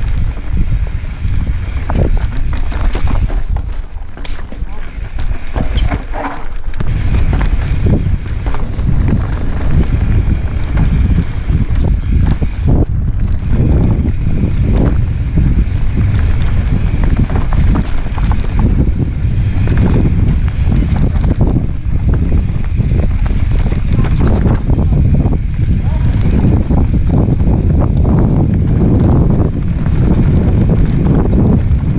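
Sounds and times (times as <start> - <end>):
bike rattling and knocking: 0.0 - 31.9
tyres on dirt and rocks: 0.0 - 31.9
wind buffeting microphone: 0.0 - 31.9.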